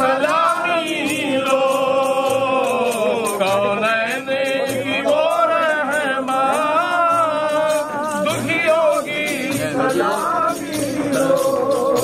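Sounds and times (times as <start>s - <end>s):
fast percussive ticking: 0.0s - 12.0s
men singing together: 0.0s - 12.0s.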